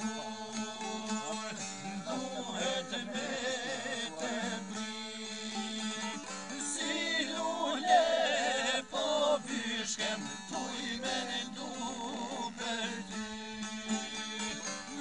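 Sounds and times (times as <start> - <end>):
men singing: 0.0 - 15.0
plucked lutes: 0.0 - 15.0.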